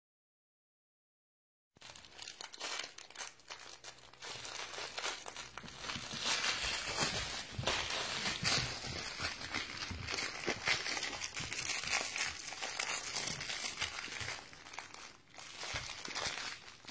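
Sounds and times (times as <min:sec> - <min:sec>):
dog toy crinkling: 0:01.8 - 0:16.9.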